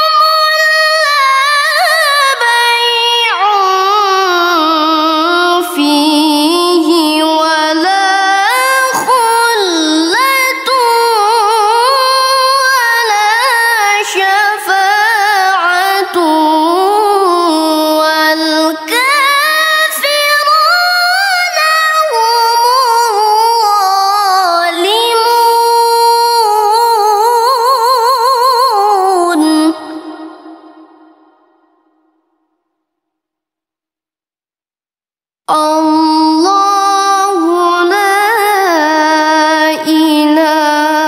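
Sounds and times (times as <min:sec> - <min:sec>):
woman reciting melodically: 0:00.0 - 0:31.2, 0:35.5 - 0:41.0.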